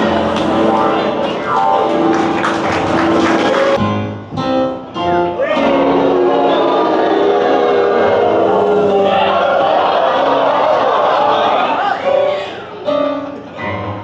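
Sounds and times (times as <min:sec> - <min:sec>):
instrumental theatre music: 0:00.0 - 0:14.0.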